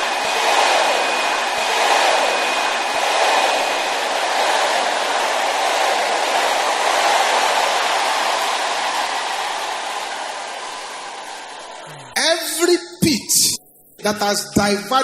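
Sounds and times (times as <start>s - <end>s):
crowd shouting and praying aloud: 0.0s - 15.0s.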